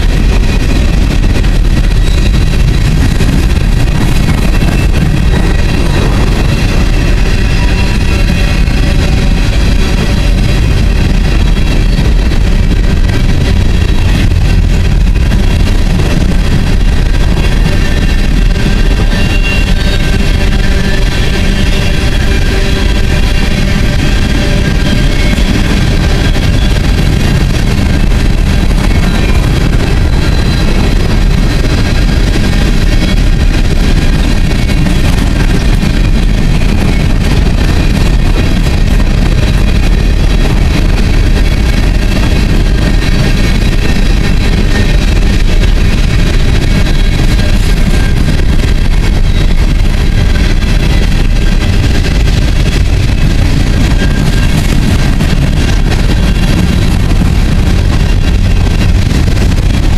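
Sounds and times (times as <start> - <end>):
steel wheels rumbling on track: 0.0 - 59.9.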